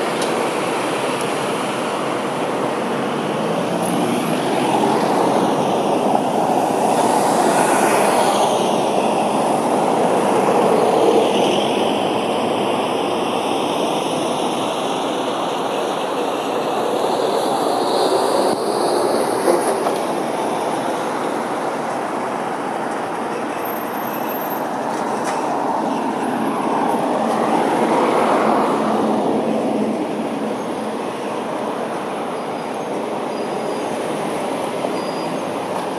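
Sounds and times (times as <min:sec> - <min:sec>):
street traffic rumble: 0:00.0 - 0:35.9.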